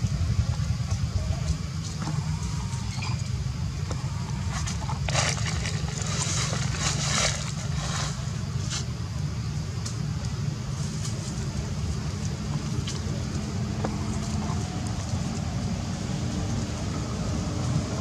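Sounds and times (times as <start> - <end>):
low steady motor running: 0.0 - 18.0.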